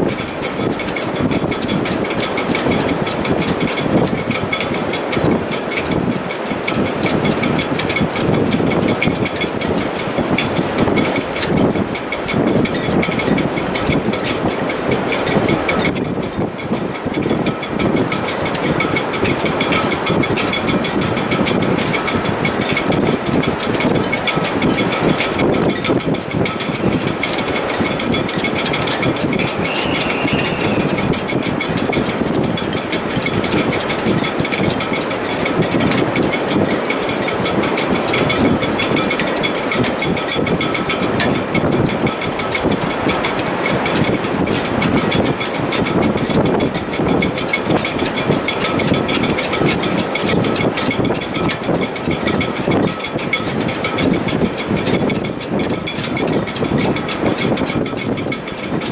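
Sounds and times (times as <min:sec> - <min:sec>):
strong wind through rigging: 0:00.0 - 0:58.9.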